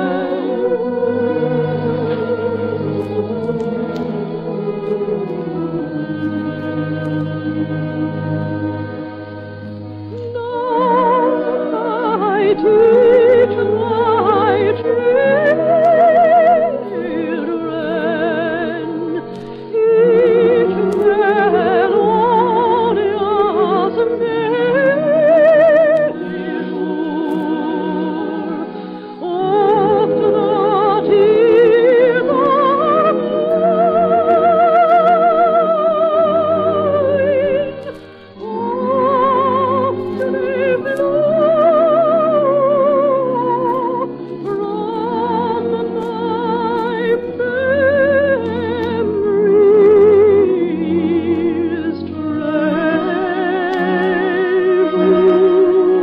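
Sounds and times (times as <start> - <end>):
operatic solo singing: 0.0 - 56.0
orchestral accompaniment: 0.0 - 56.0.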